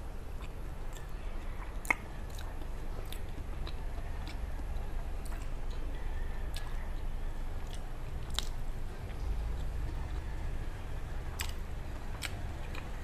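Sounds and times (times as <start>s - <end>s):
person chewing food: 0.3s - 10.4s, 11.3s - 13.0s.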